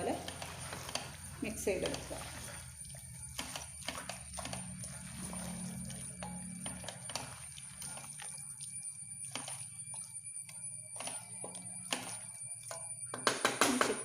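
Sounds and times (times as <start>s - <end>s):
spoon scraping a cooking pan: 0.0s - 13.2s
steady low hum: 0.0s - 13.2s.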